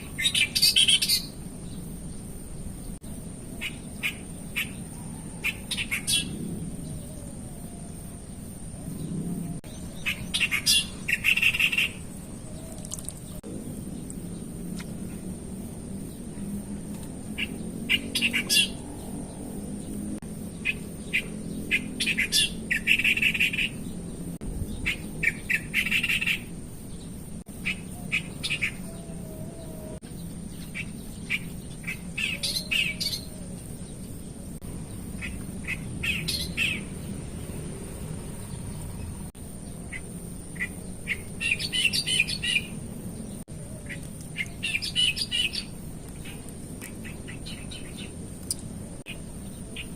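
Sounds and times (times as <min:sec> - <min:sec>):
birds chirping rapidly: 0:00.0 - 0:49.9.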